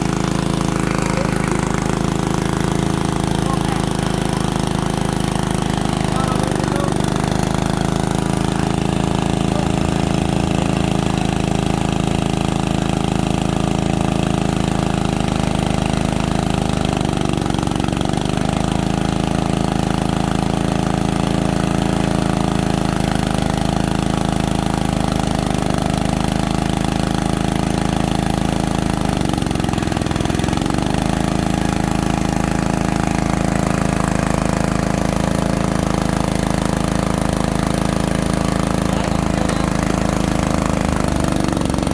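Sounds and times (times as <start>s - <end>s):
core drilling machine engine: 0.0s - 41.9s.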